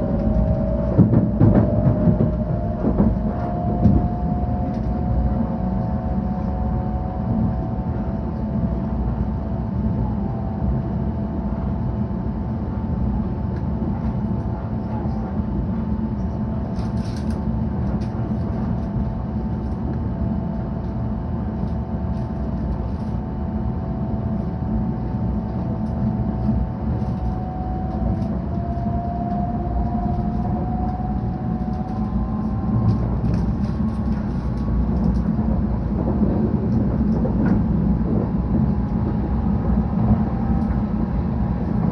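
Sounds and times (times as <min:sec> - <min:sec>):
train running rumble: 0:00.0 - 0:41.9.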